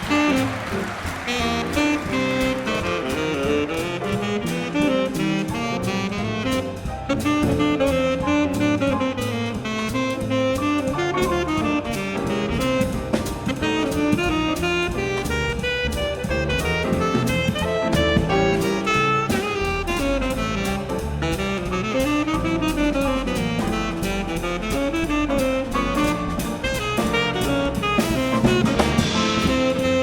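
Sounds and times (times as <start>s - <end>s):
bass: 0.0s - 30.0s
drum kit: 0.0s - 30.0s
piano: 0.0s - 30.0s
saxophone: 0.0s - 30.0s.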